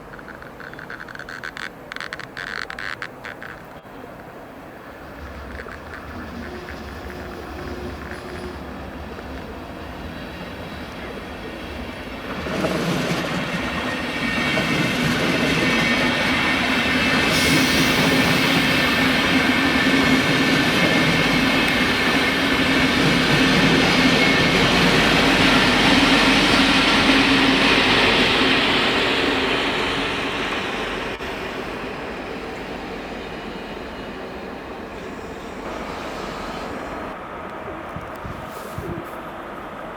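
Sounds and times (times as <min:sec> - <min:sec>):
train passing on tracks: 0:00.0 - 0:39.9.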